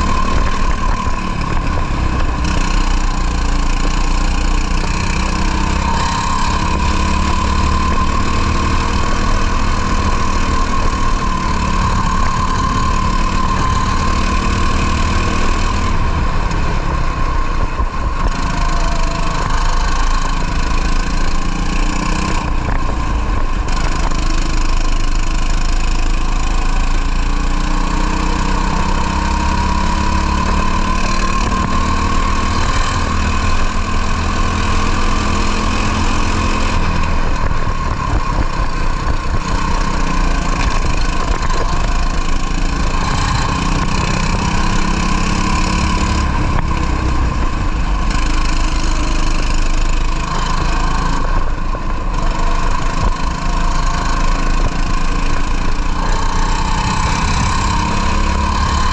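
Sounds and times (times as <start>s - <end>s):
wind rumble on microphone: 0.0s - 27.6s, 28.7s - 58.9s
kart engine running hard: 0.0s - 58.9s.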